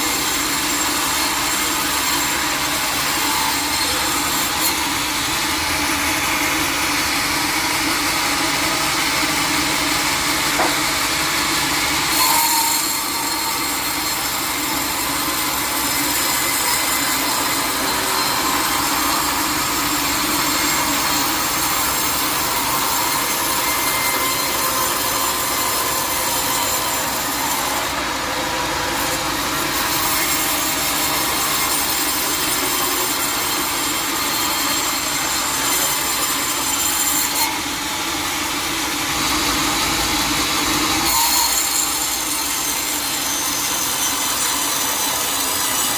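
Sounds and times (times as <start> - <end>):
sawmill saw cutting log: 0.0 - 45.9.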